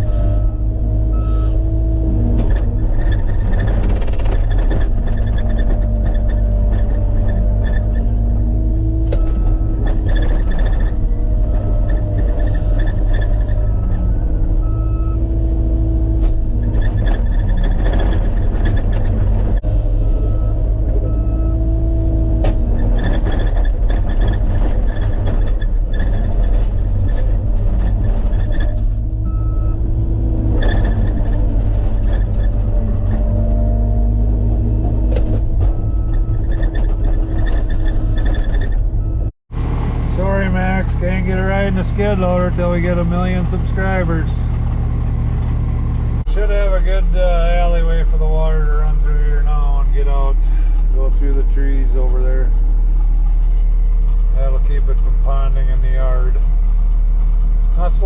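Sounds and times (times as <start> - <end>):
skid loader diesel engine: 0.0 - 58.0.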